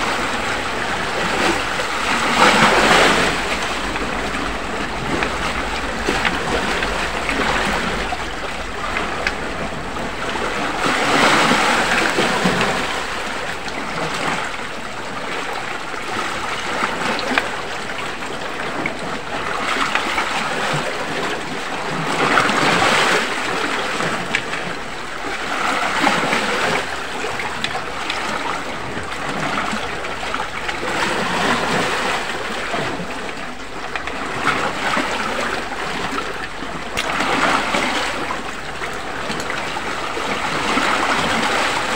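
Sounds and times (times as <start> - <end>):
waves washing against rocky shore: 0.0 - 41.9.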